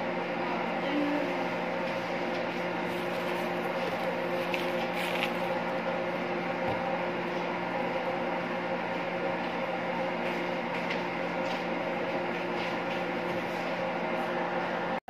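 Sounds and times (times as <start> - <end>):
kitchen machine humming: 0.0 - 15.0.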